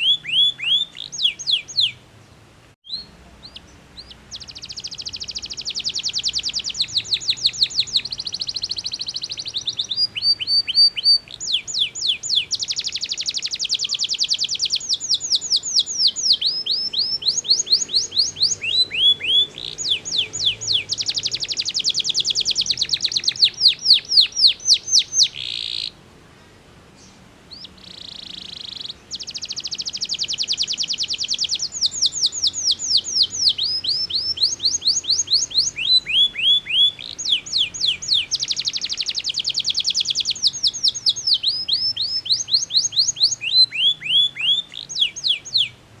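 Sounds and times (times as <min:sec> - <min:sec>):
canary singing: 0:00.0 - 0:02.0, 0:02.8 - 0:26.0, 0:27.0 - 0:45.8.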